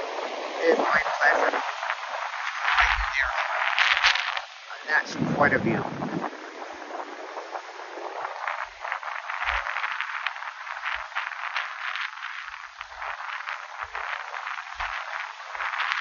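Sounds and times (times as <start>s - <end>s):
gusts thumping the microphone: 0.0s - 16.0s
wind crackling on microphone: 0.0s - 16.0s.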